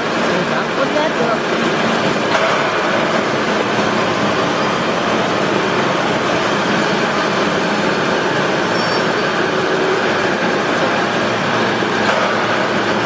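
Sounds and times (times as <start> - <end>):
hydraulic baler running: 0.0 - 13.0.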